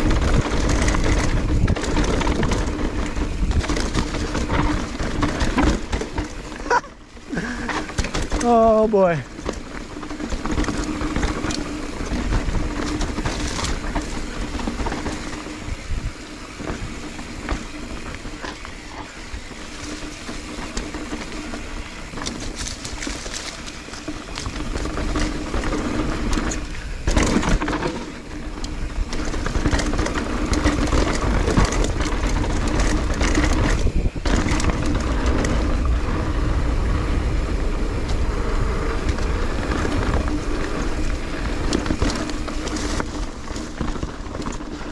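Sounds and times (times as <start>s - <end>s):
bike rattling over bumps: 0.0s - 44.9s
bike tyres crunching over ground: 0.0s - 44.9s
wind rumbling on microphone: 0.0s - 44.9s.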